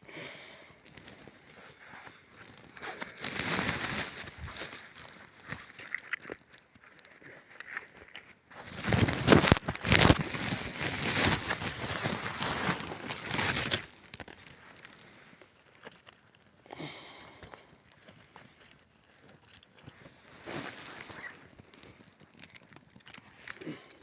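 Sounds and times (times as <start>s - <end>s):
loud crumpling and crackling: 0.2s - 24.0s.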